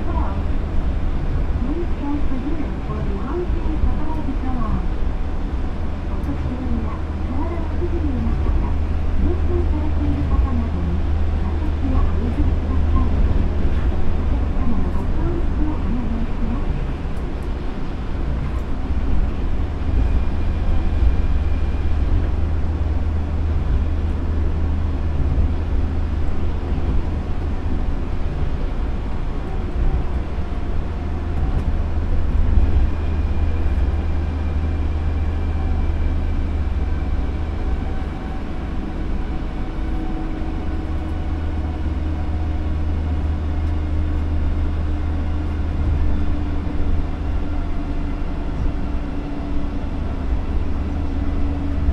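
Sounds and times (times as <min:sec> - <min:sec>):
train tyres rumbling on concrete: 0:10.0 - 0:51.9.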